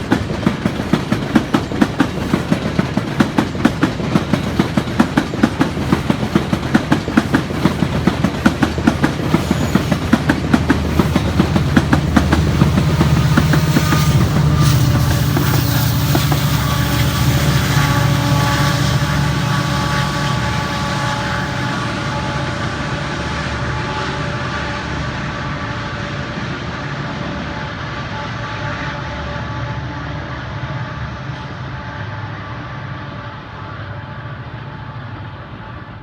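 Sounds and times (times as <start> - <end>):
passenger train passing: 0.0 - 36.0.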